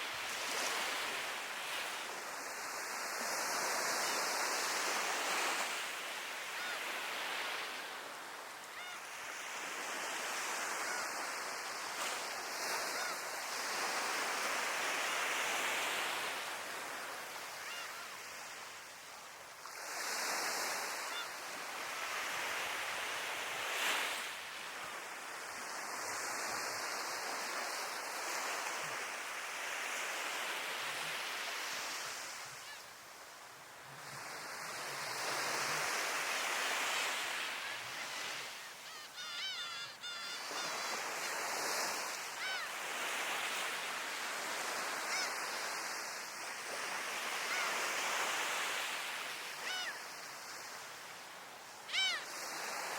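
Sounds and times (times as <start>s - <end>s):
sea waves breaking on shore: 0.0s - 52.9s.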